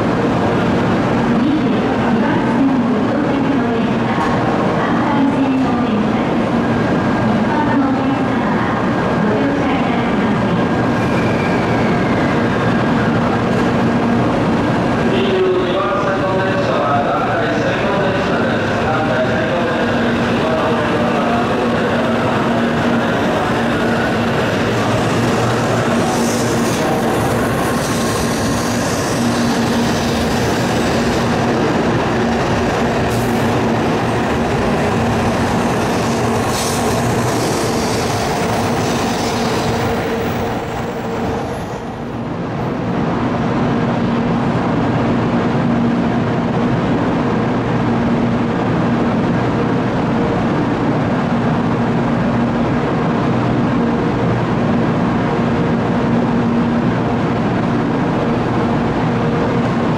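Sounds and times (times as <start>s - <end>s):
train wheels and motors rumbling: 0.0s - 59.9s.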